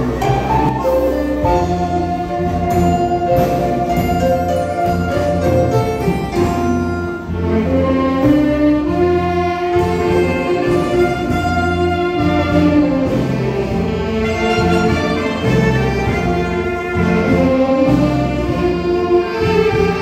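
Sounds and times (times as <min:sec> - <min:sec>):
string-like melody over bass: 0:00.0 - 0:20.0.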